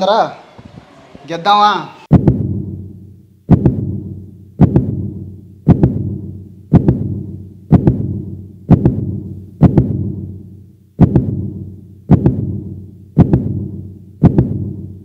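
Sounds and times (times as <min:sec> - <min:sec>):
heartbeat double thumps: 0:02.1 - 0:15.0.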